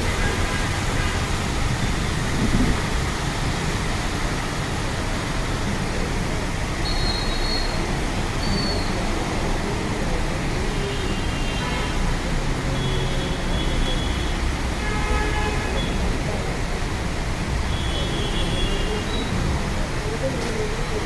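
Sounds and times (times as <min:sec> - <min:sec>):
vehicles on wet roads: 0:00.0 - 0:21.0.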